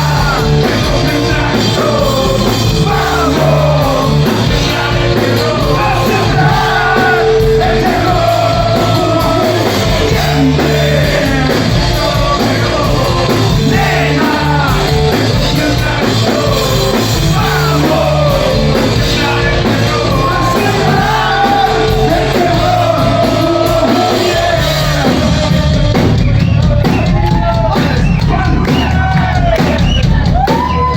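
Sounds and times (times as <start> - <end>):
bass notes: 0.0 - 30.9
person singing: 0.0 - 30.9
rock band playing: 0.0 - 30.9.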